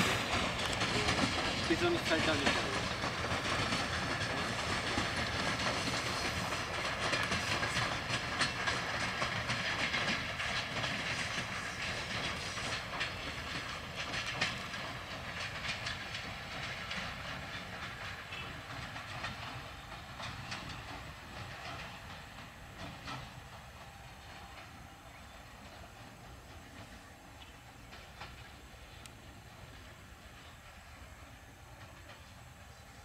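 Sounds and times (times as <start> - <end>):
train wheels clattering over rails: 0.0 - 33.0.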